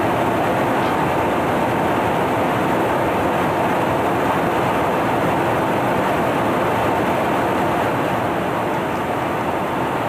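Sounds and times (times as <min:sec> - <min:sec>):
aircraft jet engines and airflow: 0:00.0 - 0:10.0.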